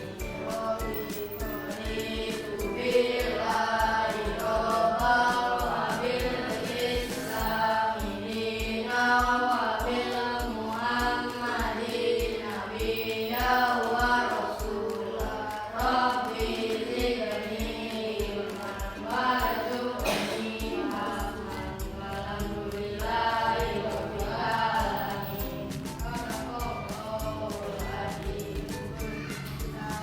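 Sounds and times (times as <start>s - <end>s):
song with singing over a beat: 0.0s - 30.0s.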